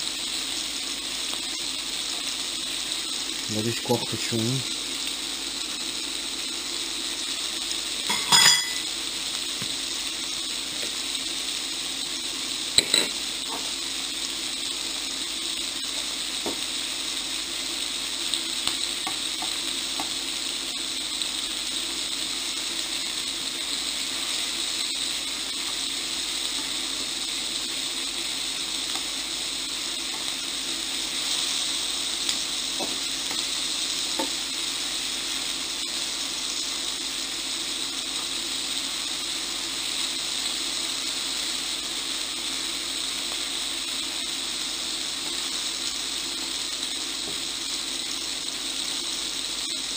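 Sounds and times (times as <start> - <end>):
food sizzling in a frying pan: 0.0 - 49.9.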